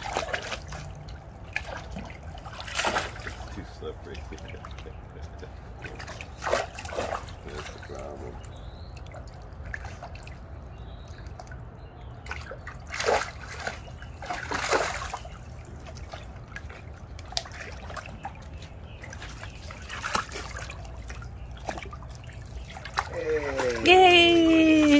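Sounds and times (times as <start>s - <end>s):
dog splashing in water: 0.0s - 3.6s, 5.7s - 8.4s, 9.0s - 24.9s
steady low hum: 0.0s - 24.9s
water sloshing and trickling: 0.0s - 24.9s.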